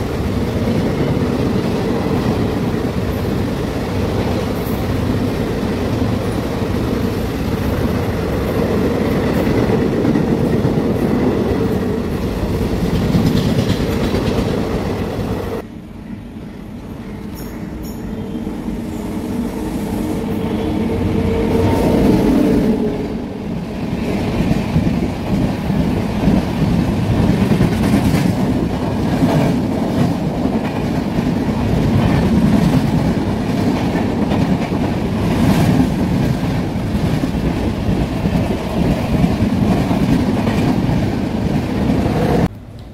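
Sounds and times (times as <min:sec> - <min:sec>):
passenger train passing at speed: 0:00.0 - 0:42.9.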